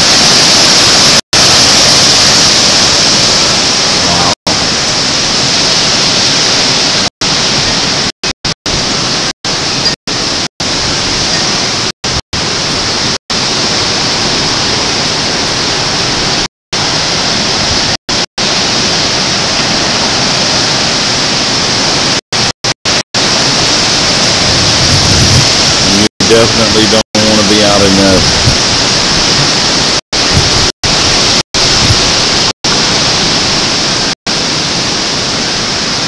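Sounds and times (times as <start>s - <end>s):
driving rain: 0.0s - 36.0s
hurricane wind: 0.0s - 36.0s.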